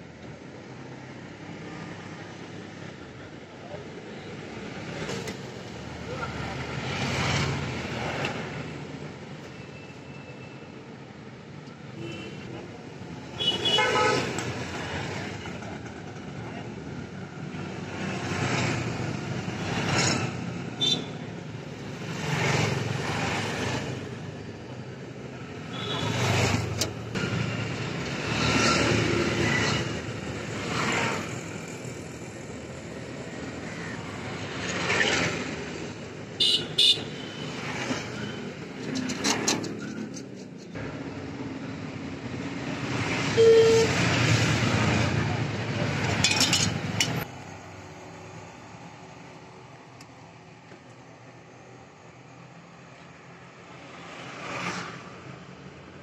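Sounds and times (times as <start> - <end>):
road traffic going by: 0.0 - 56.0.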